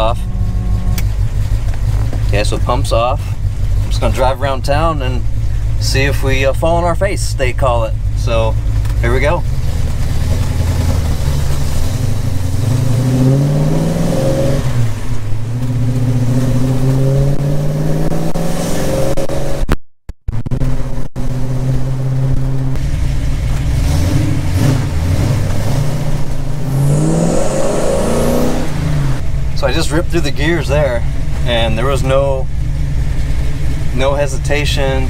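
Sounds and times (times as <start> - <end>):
car engine accelerating through gears: 0.0 - 6.7, 8.1 - 35.0.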